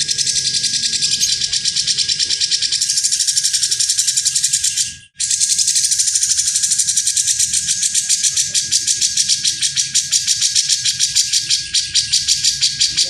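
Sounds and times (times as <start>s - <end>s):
songbird harsh rasping song: 0.0s - 13.0s.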